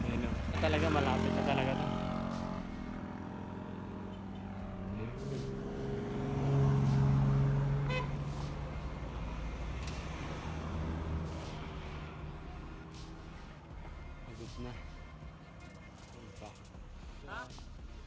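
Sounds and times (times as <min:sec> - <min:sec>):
vehicle engine passing: 0:00.0 - 0:17.6
road noise: 0:00.0 - 0:18.0.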